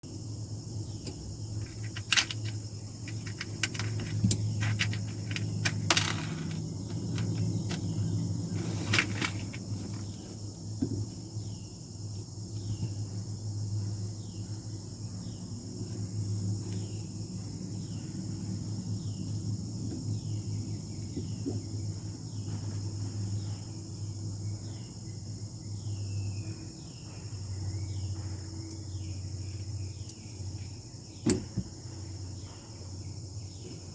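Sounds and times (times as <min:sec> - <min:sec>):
insects buzzing: 0:00.0 - 0:33.9.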